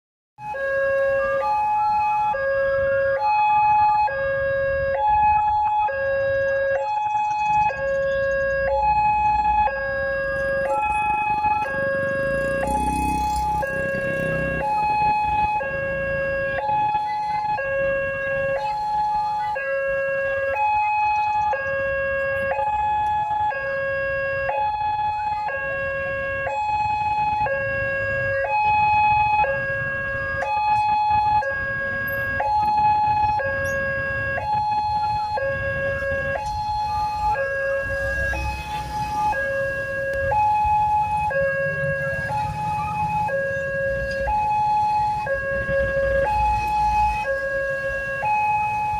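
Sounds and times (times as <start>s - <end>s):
two-tone warning siren: 0.4s - 48.9s.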